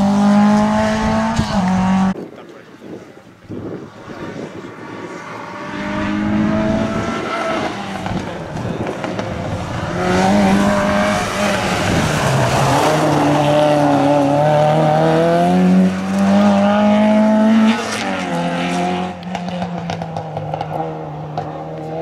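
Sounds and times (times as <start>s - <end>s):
rally car engine revving: 0.0s - 2.2s, 3.8s - 22.0s.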